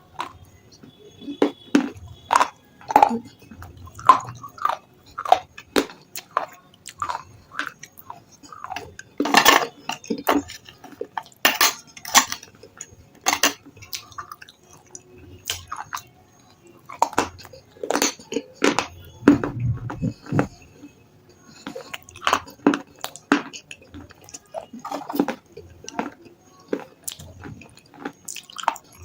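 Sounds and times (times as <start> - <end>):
chewing and crunching stone chips: 0.0 - 19.3, 21.3 - 29.0.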